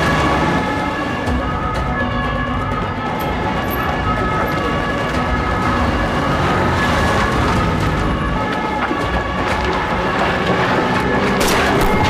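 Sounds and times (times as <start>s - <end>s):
car engines rumbling: 0.0s - 12.0s
police siren: 0.0s - 12.0s.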